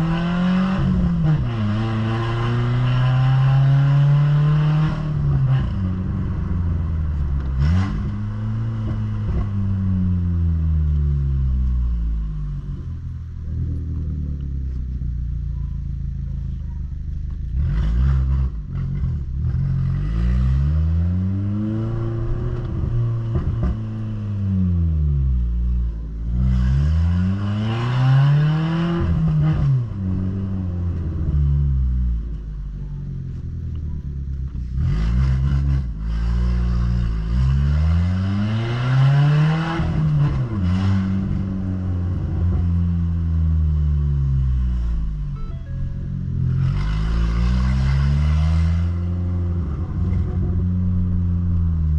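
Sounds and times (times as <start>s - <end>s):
car engine and exhaust rumbling: 0.0s - 51.9s.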